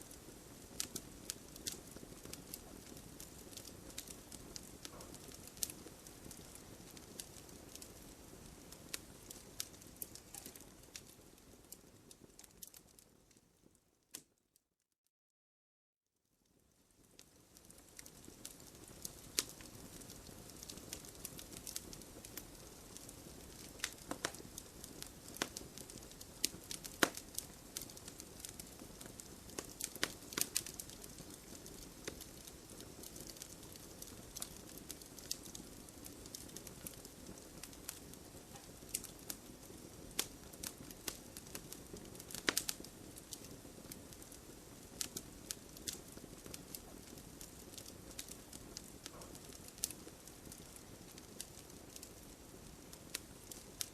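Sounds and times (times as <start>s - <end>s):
campfire burning: 0.0s - 14.2s, 16.5s - 53.9s
fire crackling and popping: 0.0s - 14.3s, 16.4s - 53.9s.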